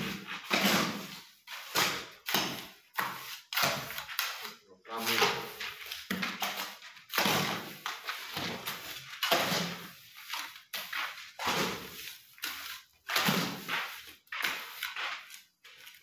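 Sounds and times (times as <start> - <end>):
hoe scraping wet mortar on concrete: 0.0 - 16.0.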